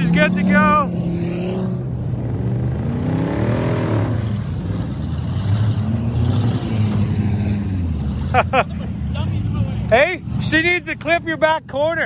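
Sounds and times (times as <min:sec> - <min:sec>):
engine revving: 0:00.0 - 0:10.6
vehicle engines running: 0:00.0 - 0:12.0.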